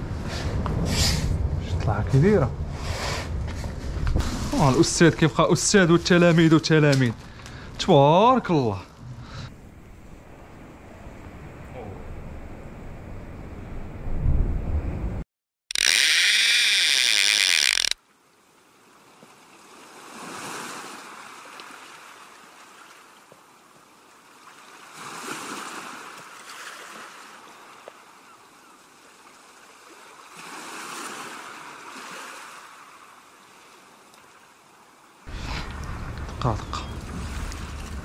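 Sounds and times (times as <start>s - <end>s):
sea waves washing against breakwater: 0.0s - 12.2s, 19.0s - 28.2s, 28.9s - 38.0s.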